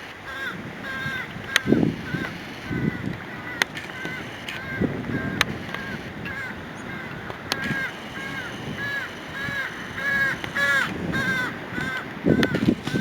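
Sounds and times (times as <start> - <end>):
crow cawing: 0.0 - 13.0.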